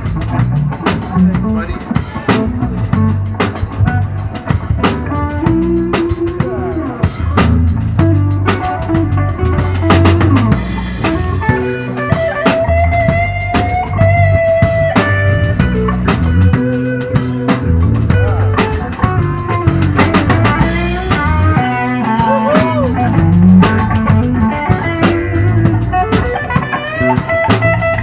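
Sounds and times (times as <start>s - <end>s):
drum kit beat: 0.0s - 28.0s
electric guitar lead: 0.0s - 28.0s
funk rock band playing: 0.0s - 28.0s.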